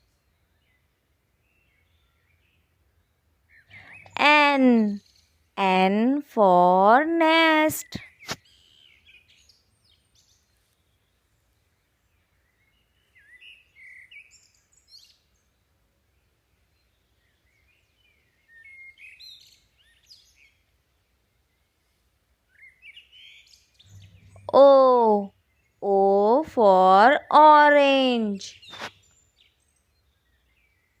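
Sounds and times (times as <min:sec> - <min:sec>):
faint bird chirping: 0:00.0 - 0:06.2, 0:06.9 - 0:31.0.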